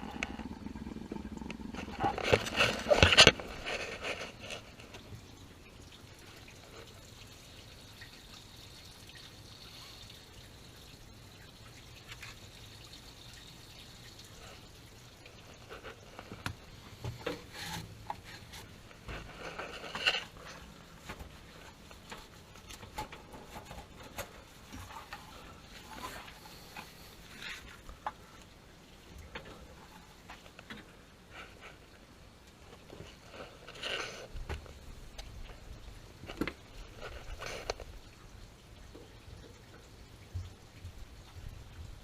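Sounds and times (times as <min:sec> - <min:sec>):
water dripping and trickling: 0:00.0 - 0:42.0.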